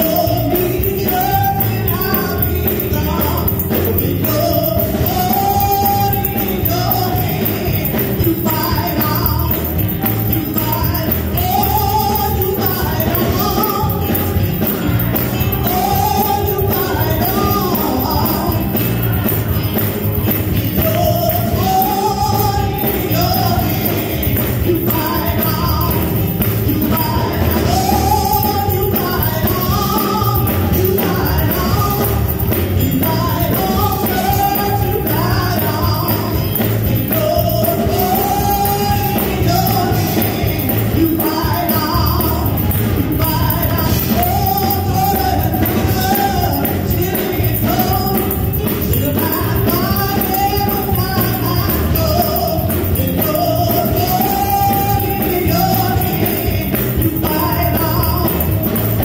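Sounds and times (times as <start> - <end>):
instrumental accompaniment: 0.0 - 59.0
woman singing gospel song: 0.0 - 59.0.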